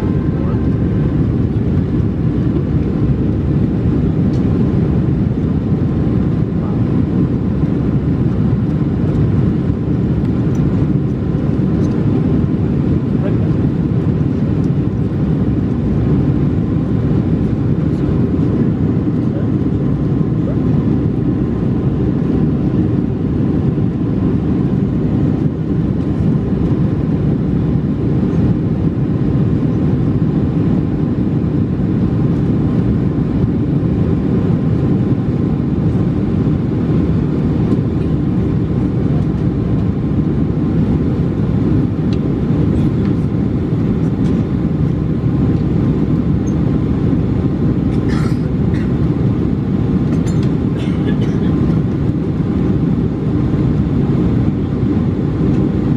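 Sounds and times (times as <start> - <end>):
airplane cabin rumble: 0.0 - 55.9.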